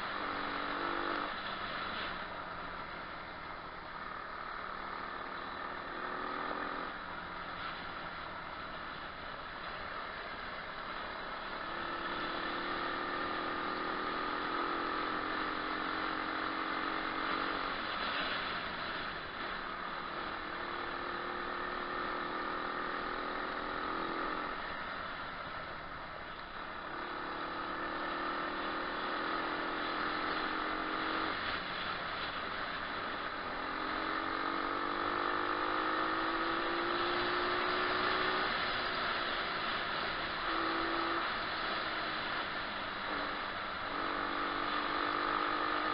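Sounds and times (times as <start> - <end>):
motorbike engine under throttle: 0.0 - 45.9.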